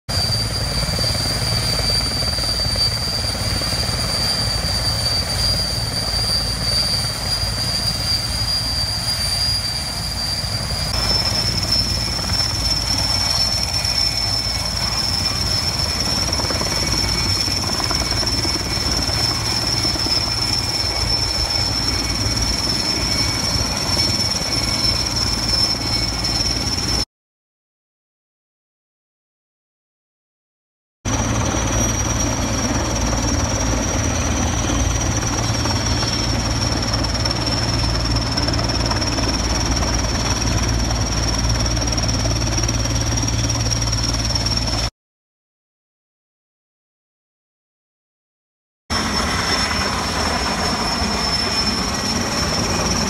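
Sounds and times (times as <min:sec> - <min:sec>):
helicopter turbine whine: 0:00.1 - 0:27.1, 0:31.1 - 0:44.9, 0:48.9 - 0:53.0.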